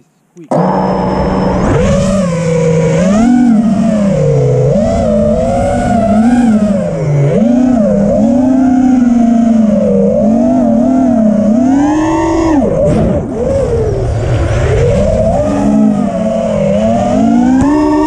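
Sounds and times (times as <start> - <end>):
drone motors whining: 0.5 - 18.0.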